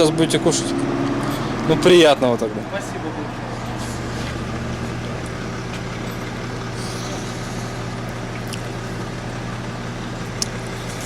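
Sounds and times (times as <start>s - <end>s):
vehicle idling hum: 0.0s - 11.0s.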